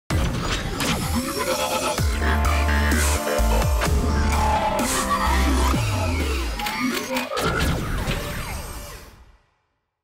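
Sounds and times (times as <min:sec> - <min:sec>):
electronic music with buzzing synth: 0:00.1 - 0:09.2.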